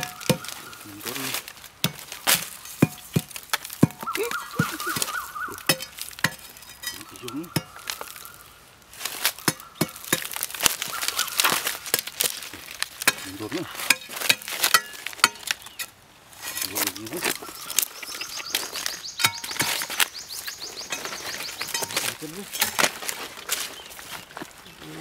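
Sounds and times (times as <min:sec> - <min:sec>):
dry leaves crackling underfoot: 0:00.0 - 0:25.0.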